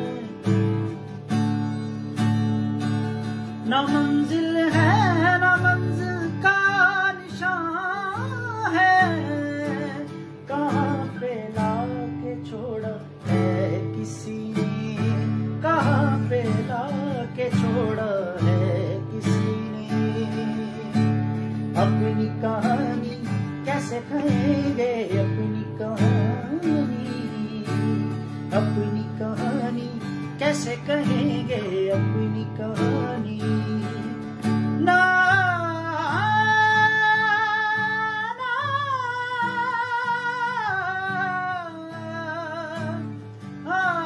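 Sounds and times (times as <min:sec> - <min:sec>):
acoustic guitar strumming: 0:00.0 - 0:44.0
man singing: 0:00.0 - 0:44.0.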